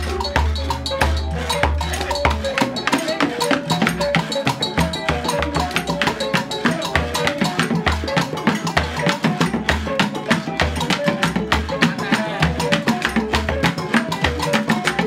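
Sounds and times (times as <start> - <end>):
percussion ensemble groove: 0.0 - 15.0.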